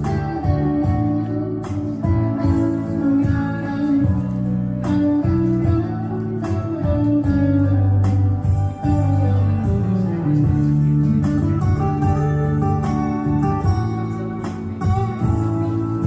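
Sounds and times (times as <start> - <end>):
country band playing: 0.0 - 16.0
guitar: 0.0 - 16.0
low bass notes: 0.0 - 16.0.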